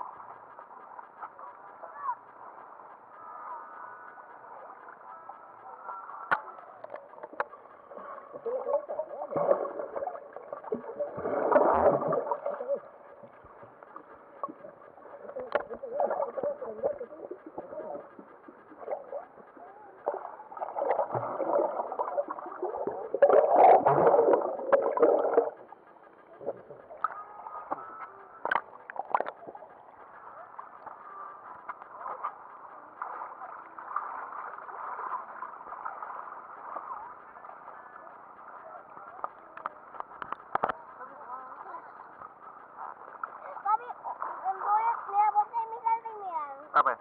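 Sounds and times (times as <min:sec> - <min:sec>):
muffled water splashing and gurgling: 0:00.0 - 0:47.0.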